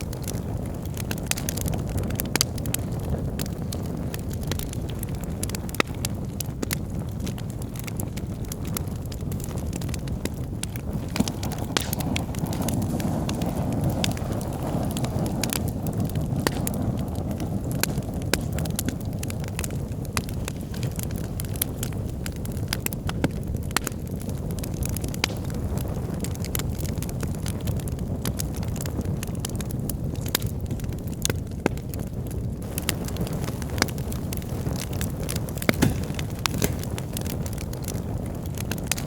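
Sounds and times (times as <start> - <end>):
fire crackling and popping: 0.0 - 39.0
fire flames rumbling: 0.0 - 39.0.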